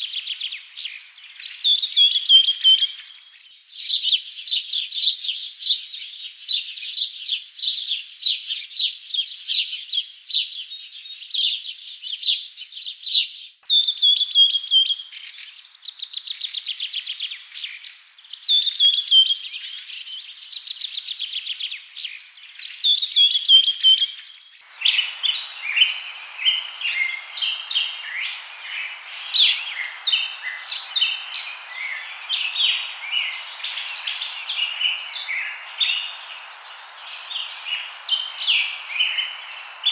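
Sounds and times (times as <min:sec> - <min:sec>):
steady hiss: 0:00.0 - 0:20.4, 0:23.4 - 0:39.9
songbirds chirping and trilling: 0:00.0 - 0:39.9.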